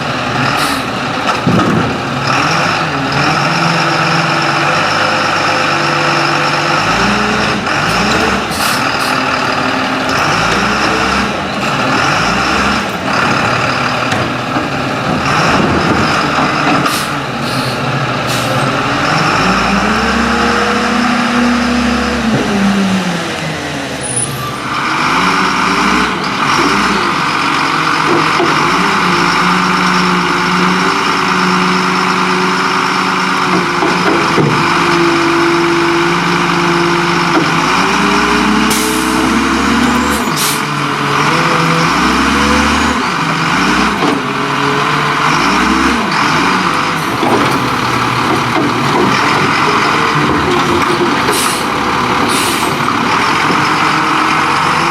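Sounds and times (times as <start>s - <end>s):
garbage truck engine revving: 0.0s - 54.9s.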